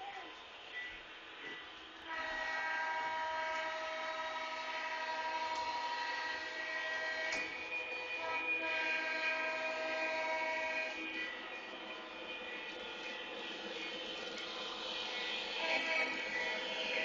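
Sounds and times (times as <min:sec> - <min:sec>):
toy train horn blasts: 0:01.4 - 0:17.0.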